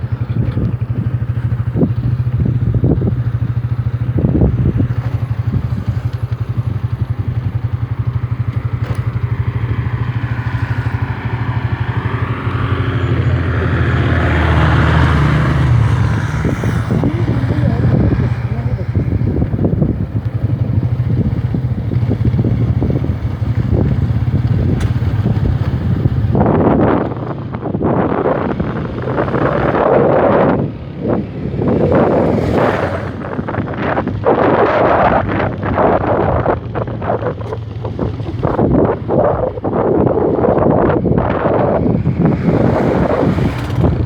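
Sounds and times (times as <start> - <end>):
motorcycle engine running: 0.0 - 44.0
wind buffeting microphone: 0.0 - 44.0.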